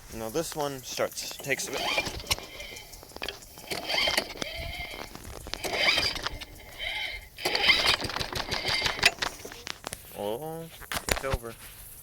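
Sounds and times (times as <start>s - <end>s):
lawn mower recoil starter pulls: 0.2s - 9.9s.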